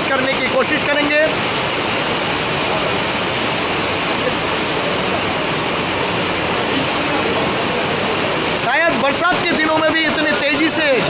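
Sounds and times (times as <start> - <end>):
torrential rain pouring: 0.0 - 11.0.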